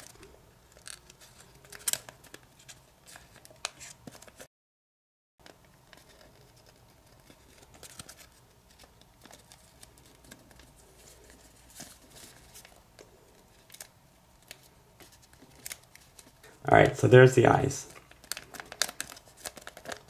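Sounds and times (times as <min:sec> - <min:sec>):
paper crinkling and clicking: 0:00.0 - 0:04.5, 0:05.4 - 0:16.5, 0:17.9 - 0:20.0.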